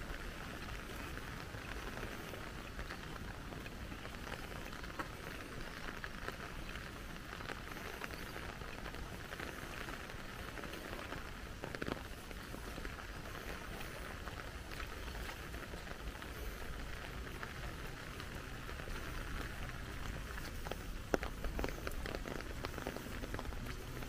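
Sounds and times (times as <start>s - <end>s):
steady hiss: 0.0s - 24.0s
water drops pattering: 0.0s - 24.0s.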